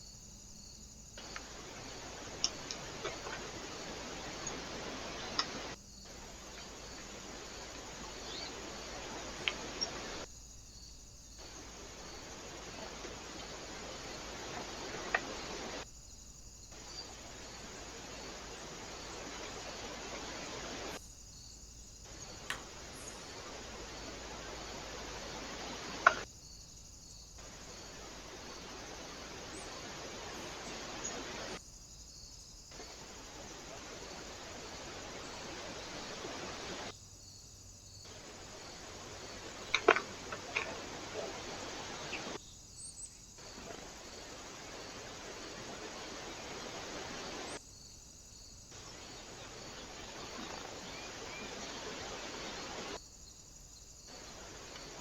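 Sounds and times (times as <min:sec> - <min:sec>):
microphone hiss: 0:00.0 - 0:55.0
outdoor background noise: 0:00.0 - 0:55.0.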